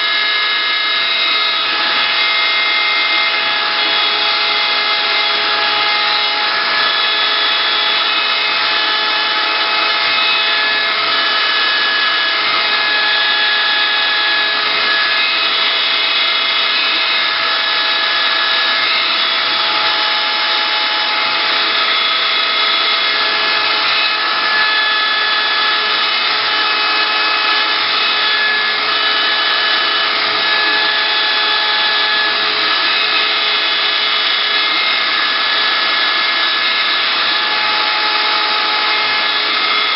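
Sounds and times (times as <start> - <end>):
wood router carving: 0.0 - 39.9.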